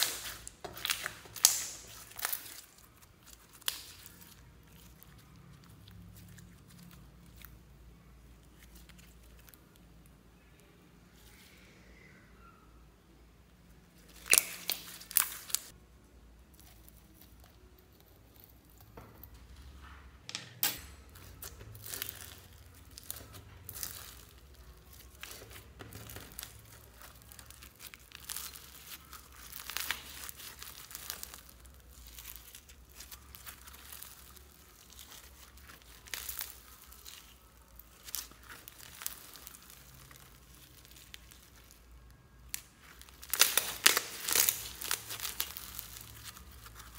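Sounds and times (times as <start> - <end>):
slime crackling and popping: 0.0 - 10.7, 14.0 - 15.8, 16.4 - 19.0, 21.0 - 46.9.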